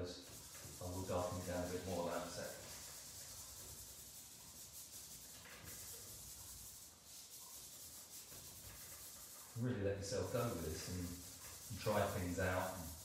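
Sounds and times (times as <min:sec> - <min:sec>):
hand rubbing on paper: 0:00.0 - 0:13.0.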